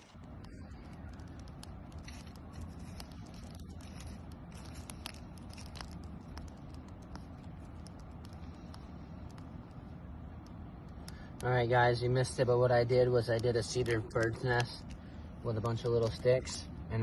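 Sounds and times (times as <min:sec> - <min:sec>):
kindling snapping and crackling: 0:00.0 - 0:16.7
steady low rumble: 0:00.0 - 0:17.0.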